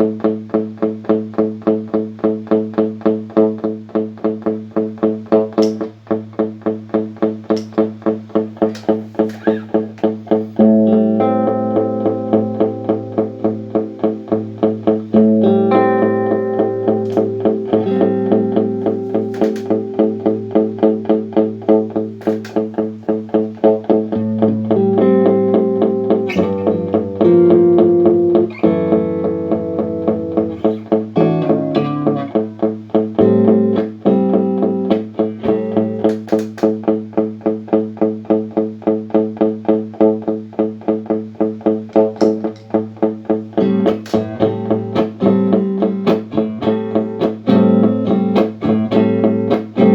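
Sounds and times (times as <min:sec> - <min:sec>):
looped strummed guitar: 0:00.0 - 0:49.9
sustained guitar notes: 0:00.0 - 0:49.9.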